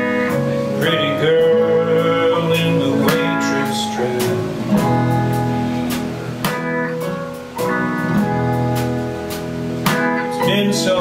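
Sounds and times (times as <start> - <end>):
live folk-rock band: 0.0 - 11.0
strummed acoustic guitar: 0.0 - 11.0.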